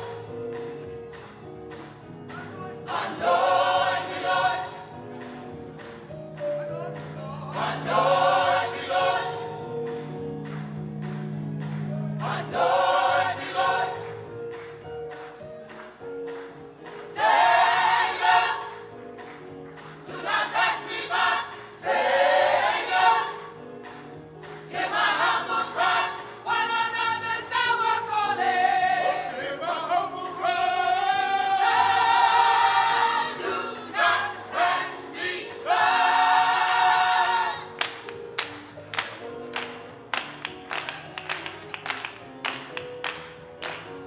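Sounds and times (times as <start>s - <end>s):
gospel choir singing: 0.0s - 38.7s
instrumental accompaniment: 0.0s - 44.0s.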